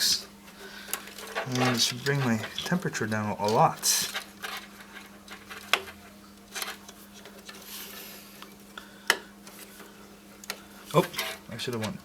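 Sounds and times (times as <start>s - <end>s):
quiet handling: 0.0s - 12.0s.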